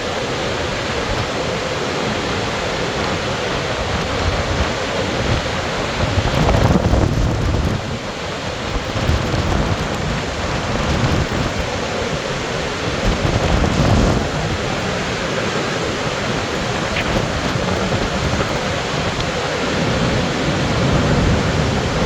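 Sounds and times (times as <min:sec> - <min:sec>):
deep water rumble: 0:00.0 - 0:22.0
waterfall rushing: 0:00.0 - 0:22.0.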